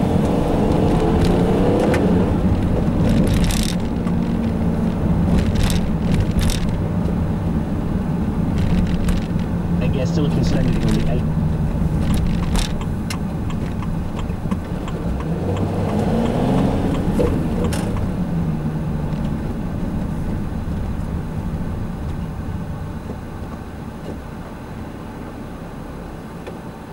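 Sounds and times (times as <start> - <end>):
road noise: 0.0 - 26.9
vehicle engine: 0.0 - 26.9.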